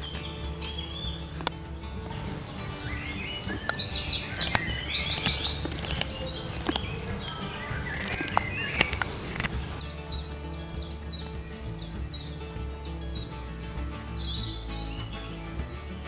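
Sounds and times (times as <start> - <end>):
background music with bass: 0.0 - 16.0
songbird singing trills: 0.0 - 16.0.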